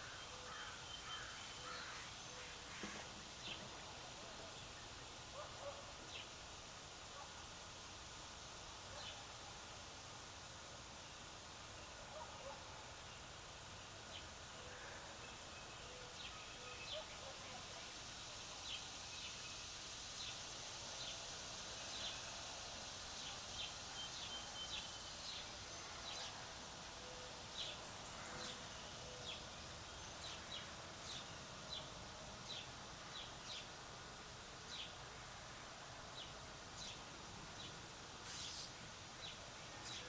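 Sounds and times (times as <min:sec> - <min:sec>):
outdoor background hiss: 0:00.0 - 0:40.0.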